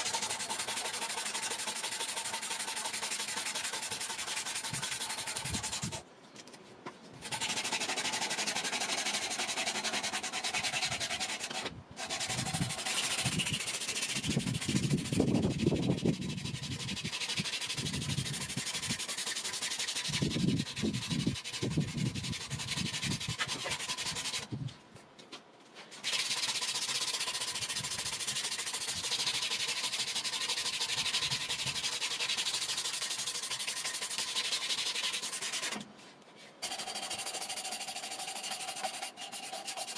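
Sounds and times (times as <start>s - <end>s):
abrasive cloth sanding wood: 0.0s - 6.0s, 7.2s - 24.5s, 26.0s - 35.8s, 36.6s - 39.9s.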